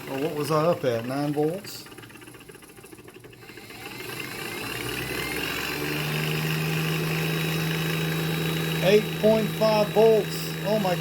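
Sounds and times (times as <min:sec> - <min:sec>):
electric motor whine and hum: 0:00.0 - 0:11.0.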